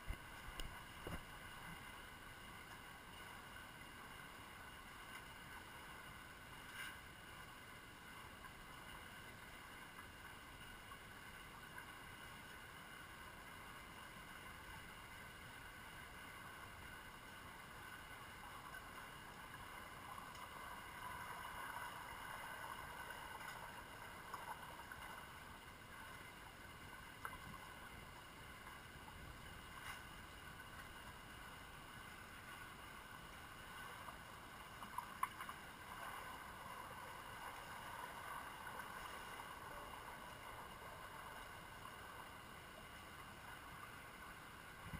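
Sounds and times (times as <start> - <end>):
faint steady tones: 0.0 - 44.9.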